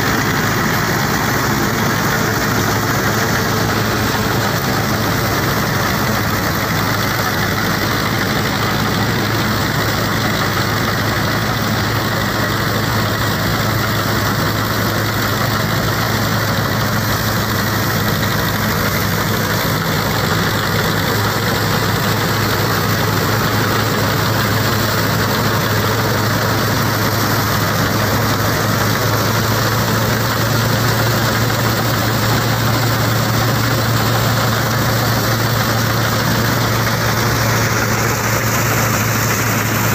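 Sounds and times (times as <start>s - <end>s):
reaper cutter and blower whirring: 0.0s - 39.9s
tractor engine running under load: 0.0s - 39.9s.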